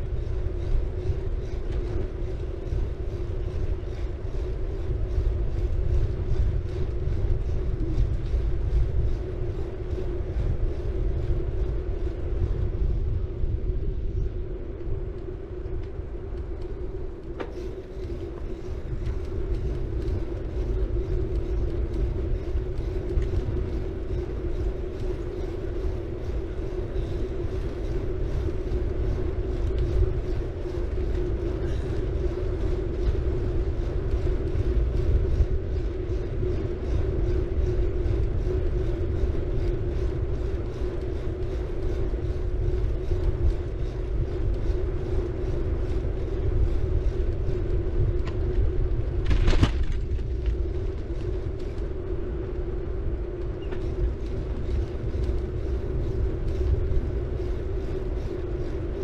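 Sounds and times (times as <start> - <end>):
bike tyres rolling on road: 0.0 - 59.0
steady hum: 0.0 - 59.0
wind rumble on microphone: 0.0 - 59.0.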